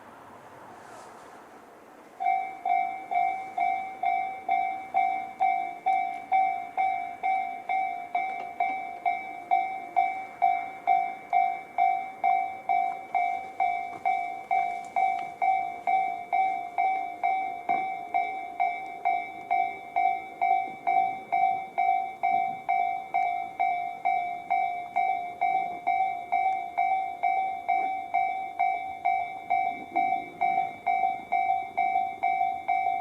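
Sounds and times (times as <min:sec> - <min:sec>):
level crossing alarm dinging: 0:02.2 - 0:33.0.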